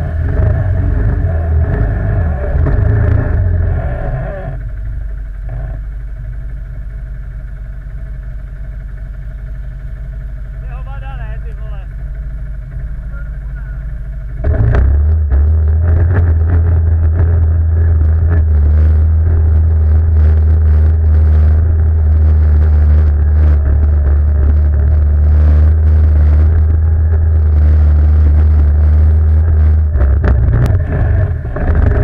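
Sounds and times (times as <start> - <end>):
quad bike engine running: 0.0 - 32.0.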